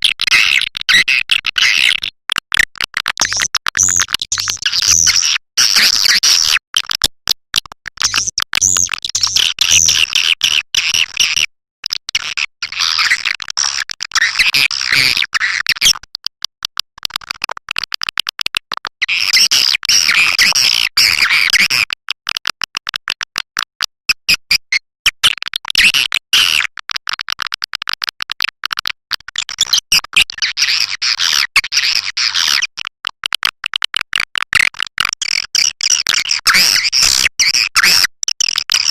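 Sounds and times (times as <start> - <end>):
recorded bird twittering and clicks: 0.0 - 38.9.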